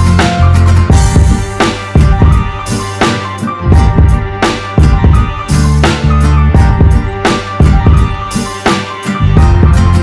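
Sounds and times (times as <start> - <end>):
background music with drums: 0.0 - 10.0.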